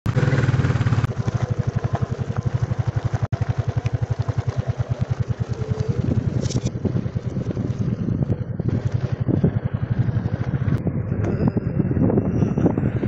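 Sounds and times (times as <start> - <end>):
engine idling: 0.1 - 12.2.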